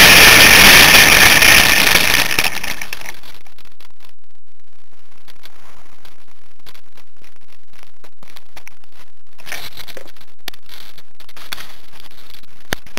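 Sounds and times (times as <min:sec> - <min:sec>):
microphone crackling and scraping: 0:02.4 - 0:12.9.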